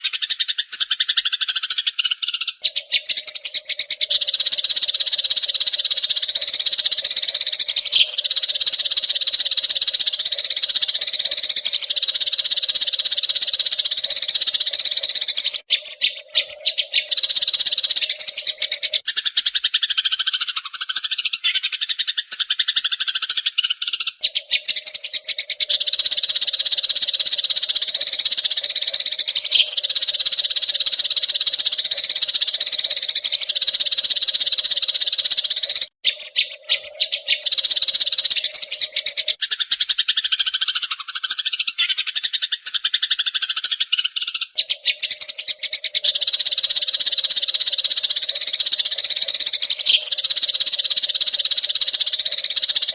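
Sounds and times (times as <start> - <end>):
sparrows chirping: 0.0 - 52.9.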